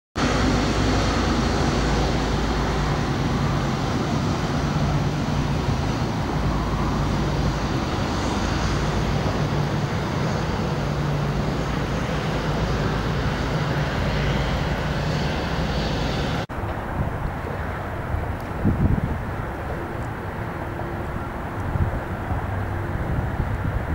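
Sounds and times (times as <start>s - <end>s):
constant low hum: 0.2s - 23.9s
jet engines at takeoff power: 0.2s - 23.9s.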